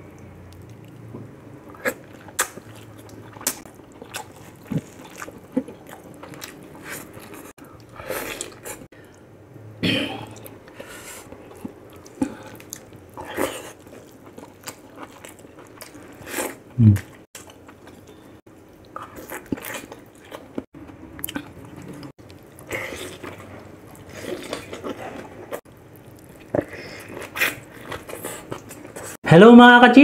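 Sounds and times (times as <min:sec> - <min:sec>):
man chewing meat: 0:00.0 - 0:09.2, 0:10.2 - 0:29.2.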